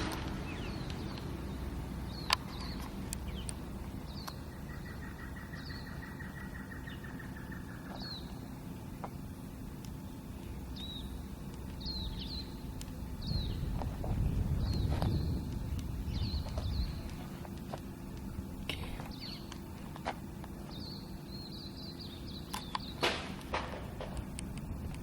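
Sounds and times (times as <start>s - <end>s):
steady low rumble: 0.0s - 25.0s
small birds chirping: 0.2s - 23.0s.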